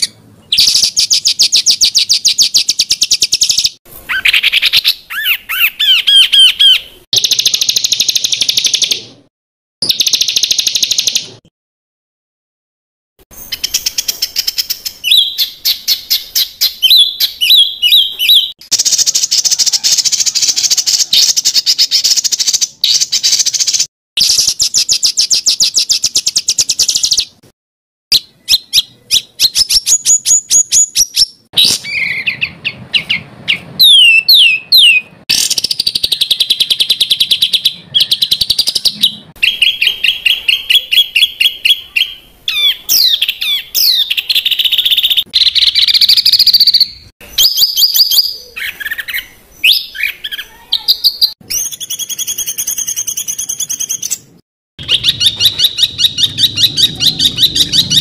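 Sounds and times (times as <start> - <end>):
songbird calls and trills: 0.0 - 9.2, 13.3 - 27.4, 28.1 - 58.0.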